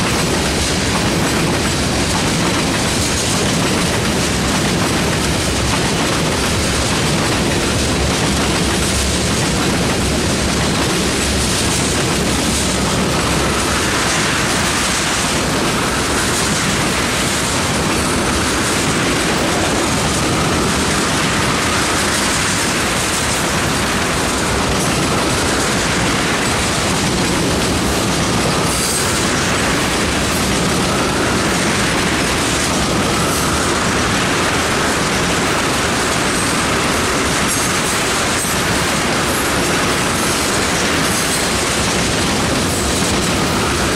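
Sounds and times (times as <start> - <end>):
steel wheels running on rails: 0.0 - 43.9.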